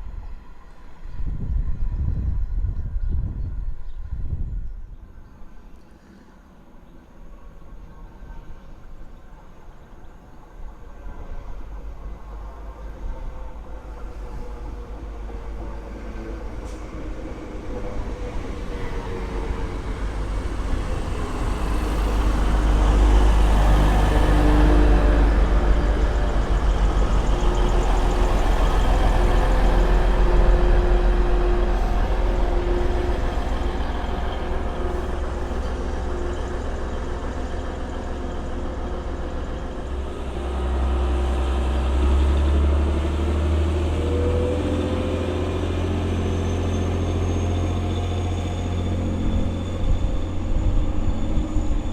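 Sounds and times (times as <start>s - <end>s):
diesel train engine rumble: 0.0s - 51.9s.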